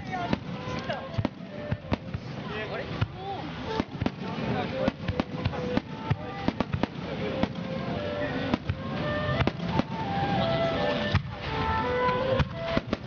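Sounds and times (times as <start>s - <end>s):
firework shells bursting: 0.0s - 11.5s, 12.1s - 13.0s
music playing: 0.0s - 13.0s.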